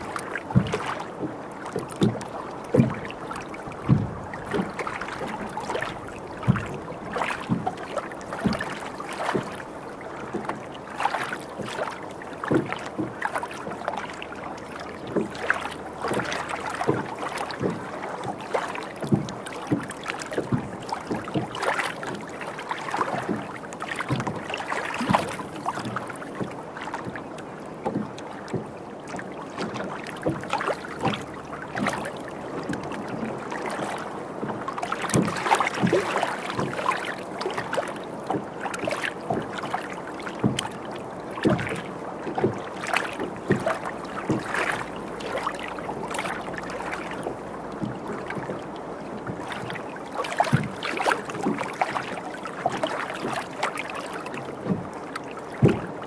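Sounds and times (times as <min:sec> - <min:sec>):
steady wash of water: 0:00.0 - 0:56.0
water slapping against boat hull: 0:00.0 - 0:56.0.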